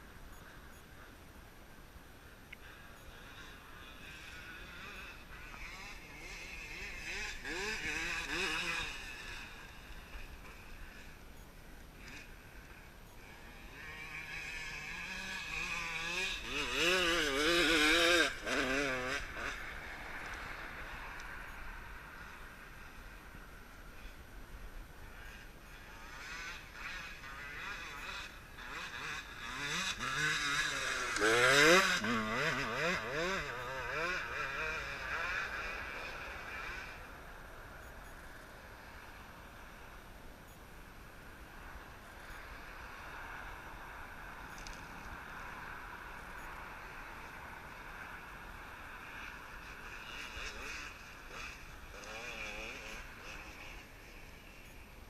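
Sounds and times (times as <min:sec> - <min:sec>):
dirt bike engine revving: 0:02.6 - 0:24.2, 0:25.0 - 0:54.9.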